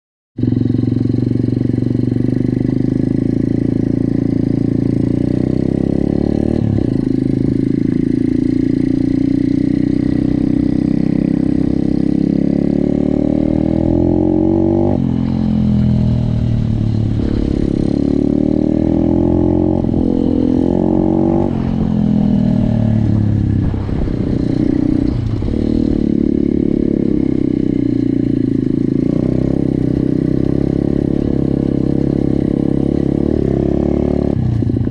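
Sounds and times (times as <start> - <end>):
small motorcycle engine revving: 0.4 - 34.9.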